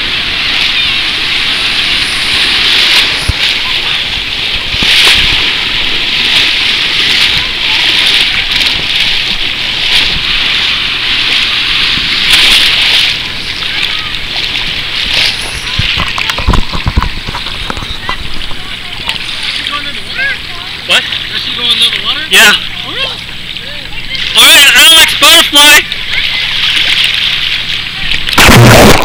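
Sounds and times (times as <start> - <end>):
seawater splashing and sloshing: 0.0 - 29.0.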